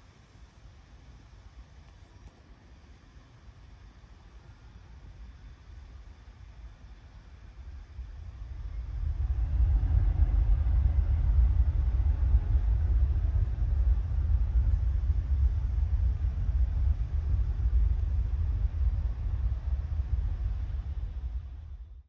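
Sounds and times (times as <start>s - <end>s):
distant jet takeoff rumble: 0.0s - 22.0s.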